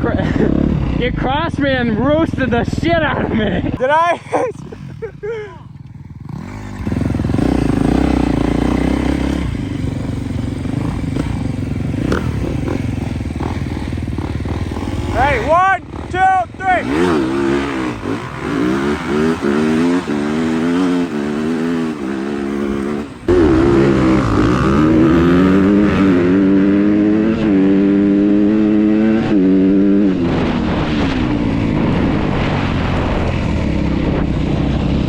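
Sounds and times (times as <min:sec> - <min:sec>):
four-wheeler engine revving: 0:00.0 - 0:35.0.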